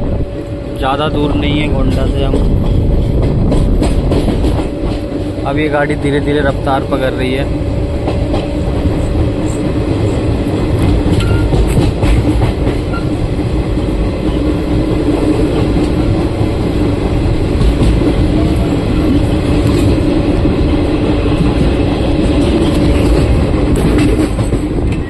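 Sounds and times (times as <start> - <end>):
train wheels clattering on track: 0.3 - 25.0.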